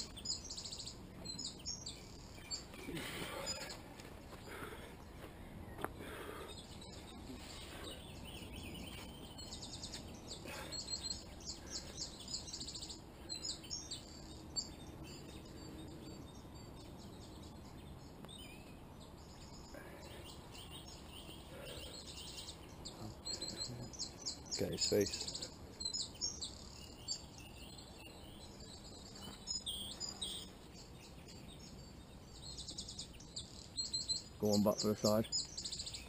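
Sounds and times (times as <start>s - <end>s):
outdoor background noise: 0.0s - 36.0s
songbirds chirping: 0.0s - 36.0s.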